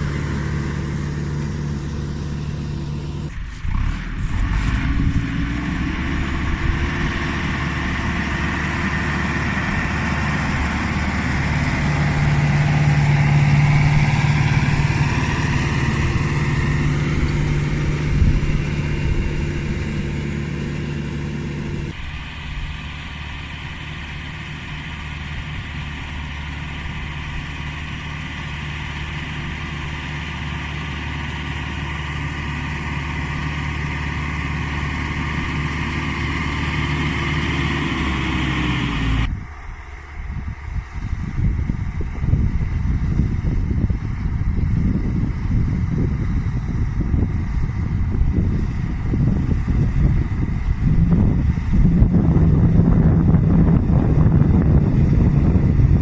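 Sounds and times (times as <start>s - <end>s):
faint engine whine: 0.0s - 56.0s
tractor diesel engine droning: 0.0s - 56.0s.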